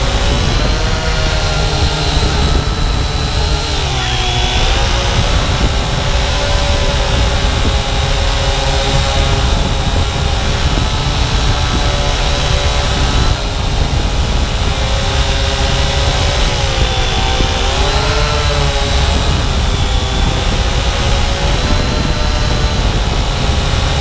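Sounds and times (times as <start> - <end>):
quadcopter motors whirring: 0.0 - 24.0
wind noise rumble: 0.0 - 24.0.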